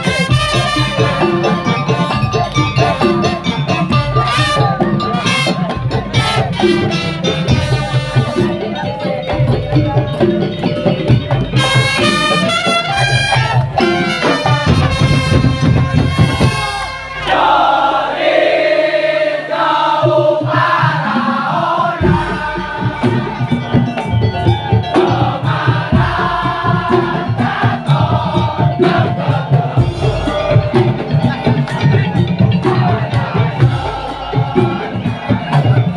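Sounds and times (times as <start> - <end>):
pitched melody: 0.0 - 35.9.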